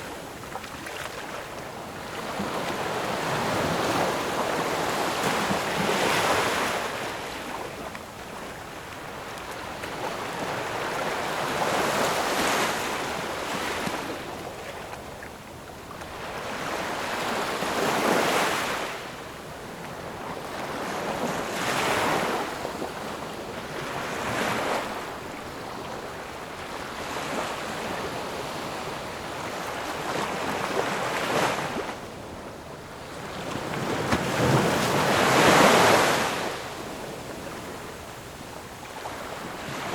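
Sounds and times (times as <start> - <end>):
ocean waves breaking on shore: 0.0 - 15.2, 15.8 - 39.9.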